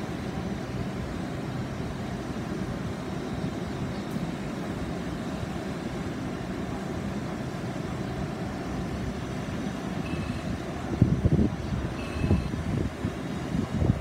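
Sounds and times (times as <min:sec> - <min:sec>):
train humming low rumble: 0:00.0 - 0:14.0.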